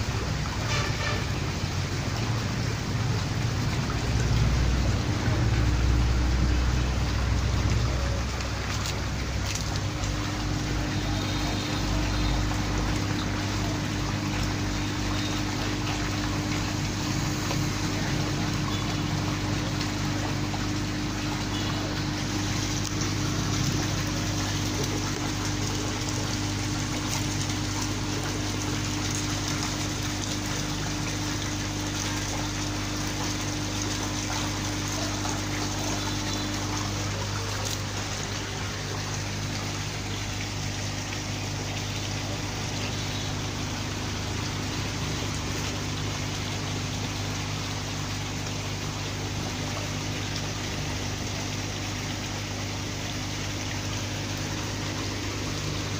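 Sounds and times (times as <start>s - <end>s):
water jetting and splashing: 0.0s - 55.9s.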